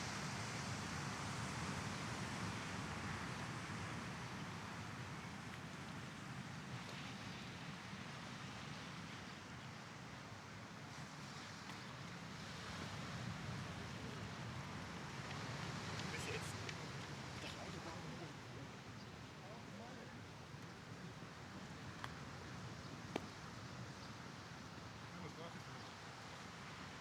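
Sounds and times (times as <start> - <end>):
waves washing onto sandy beach: 0.0 - 27.0.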